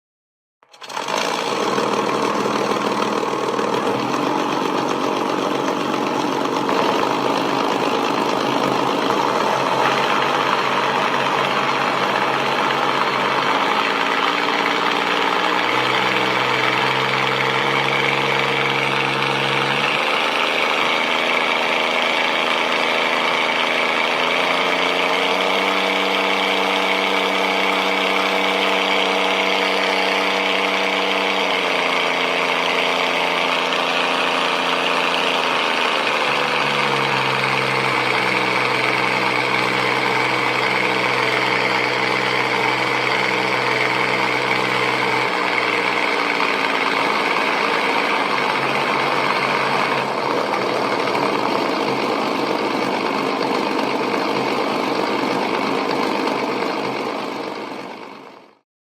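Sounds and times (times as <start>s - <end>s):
propeller plane engine running: 0.8s - 58.3s.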